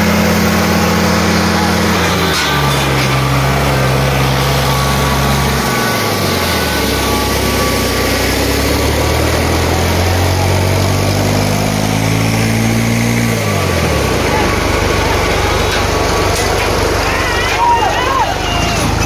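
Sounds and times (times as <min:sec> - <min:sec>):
tractor diesel engines straining: 0:00.0 - 0:19.0.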